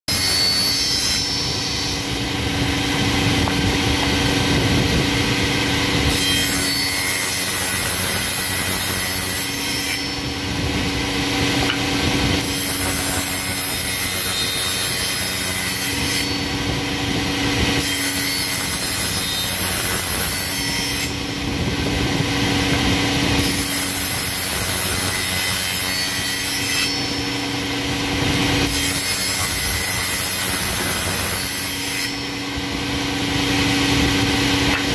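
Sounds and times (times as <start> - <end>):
cutter shaping wood: 0.1 - 34.9
motor hum: 0.1 - 34.9.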